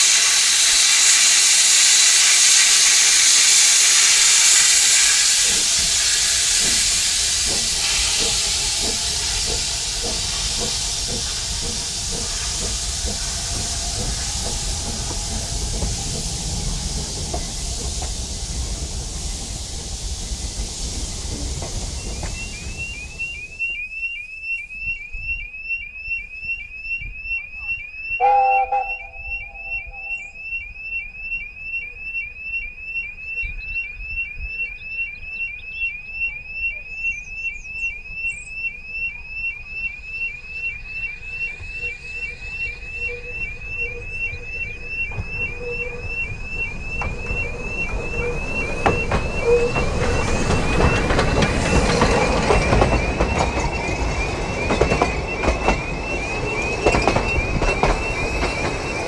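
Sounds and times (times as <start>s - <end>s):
level crossing alarm chirps: 0.0s - 18.8s, 21.5s - 59.0s
train carriages rumbling: 0.0s - 23.9s, 28.1s - 31.6s, 36.8s - 59.0s
steam train approaching: 0.0s - 24.9s, 27.0s - 59.0s.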